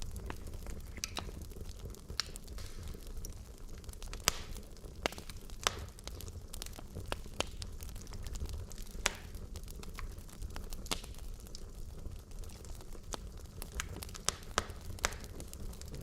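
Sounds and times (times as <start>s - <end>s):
logs crackling and popping in fire: 0.0s - 16.0s
low rumble of flame: 0.0s - 16.0s.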